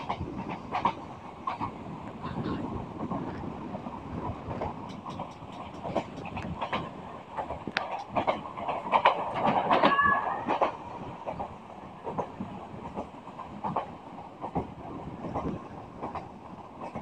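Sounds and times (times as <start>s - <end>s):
passenger train running: 0.0s - 17.0s.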